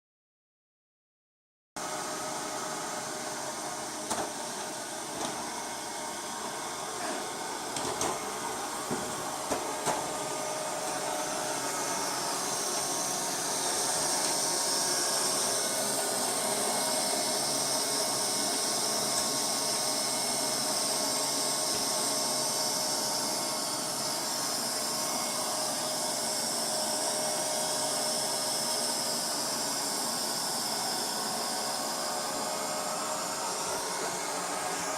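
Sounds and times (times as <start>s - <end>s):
robot vacuum cleaner whirring: 1.8s - 34.9s.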